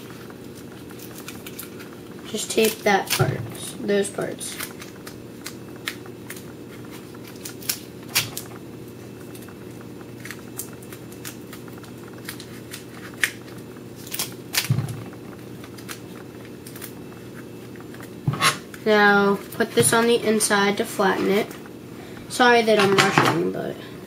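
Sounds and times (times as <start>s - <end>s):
paper and tape crackling: 0.0s - 21.7s
steady low hum: 0.0s - 24.0s.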